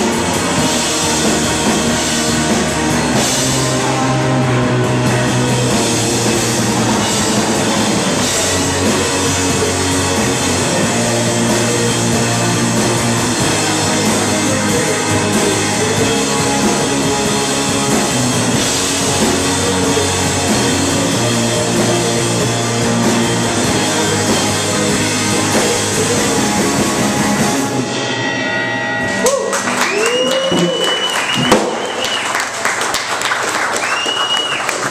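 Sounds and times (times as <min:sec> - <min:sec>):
electric bass: 0:00.0 - 0:32.0
electric guitar: 0:00.0 - 0:32.2
drum kit: 0:00.0 - 0:34.9.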